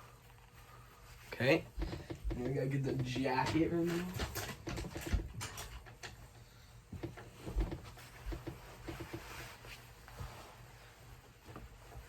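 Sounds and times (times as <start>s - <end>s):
jacket fabric rustling: 0.0s - 12.0s.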